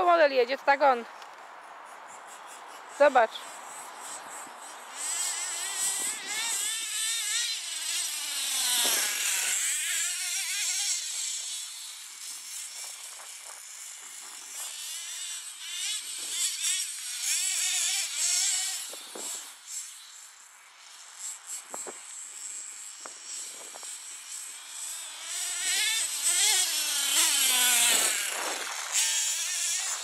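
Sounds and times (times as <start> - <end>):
rc car engine revving: 2.0 - 30.0.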